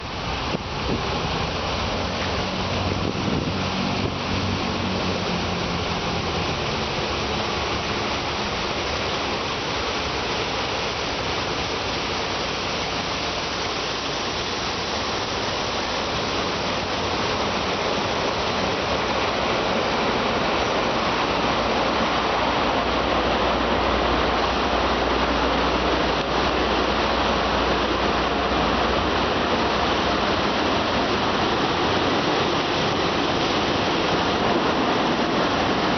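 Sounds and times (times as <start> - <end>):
water spraying in car wash: 0.0 - 35.9.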